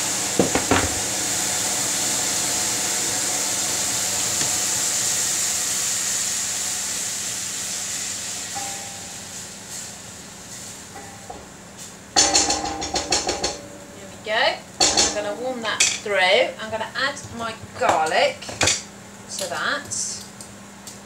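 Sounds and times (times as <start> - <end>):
water sizzling in hot frying pan: 0.0 - 17.1.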